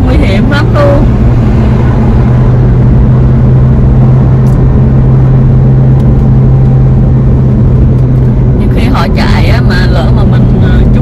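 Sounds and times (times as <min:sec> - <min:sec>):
car interior drone: 0:00.0 - 0:11.0.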